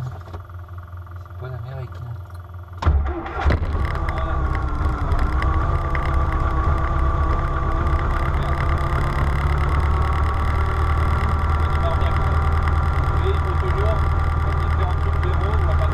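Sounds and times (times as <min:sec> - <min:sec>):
engine humming with whine: 0:00.0 - 0:15.9.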